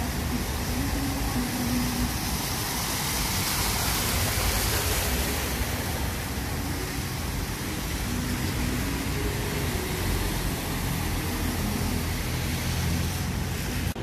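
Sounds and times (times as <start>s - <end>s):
tyres splashing through water: 0.0s - 14.0s.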